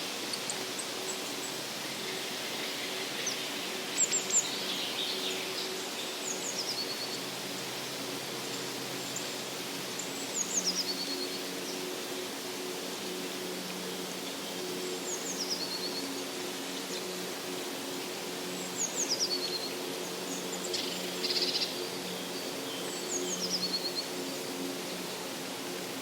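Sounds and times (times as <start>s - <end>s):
songbirds singing: 0.0s - 25.8s
steady background hiss: 0.0s - 26.0s.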